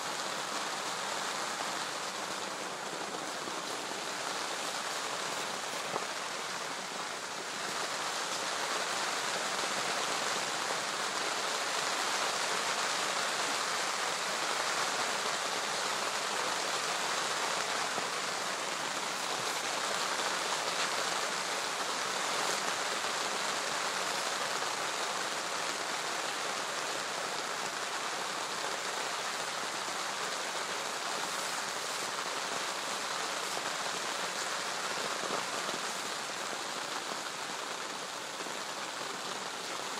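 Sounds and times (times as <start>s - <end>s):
rain falling on lake: 0.0s - 39.9s.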